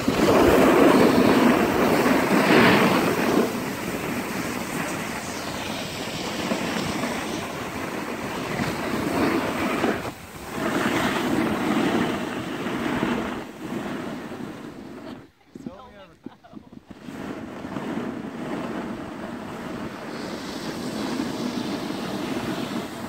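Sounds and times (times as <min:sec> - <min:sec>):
snowboard scraping over snow: 0:00.0 - 0:23.0
wind rushing over microphone: 0:00.0 - 0:23.0.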